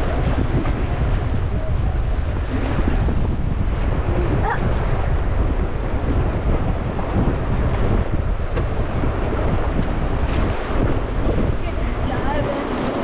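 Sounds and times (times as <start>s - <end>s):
rushing river water: 0.0s - 13.0s
wind buffeting microphone: 0.0s - 13.0s.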